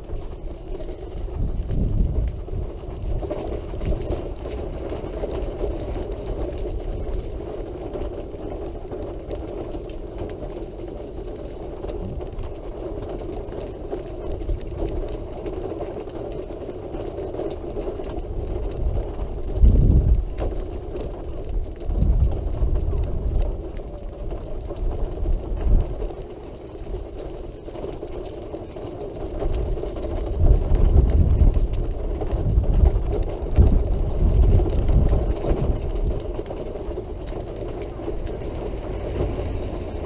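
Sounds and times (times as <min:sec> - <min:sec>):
wind rumbling on microphone: 0:00.0 - 0:40.0
wheelchair motor running: 0:00.1 - 0:40.0.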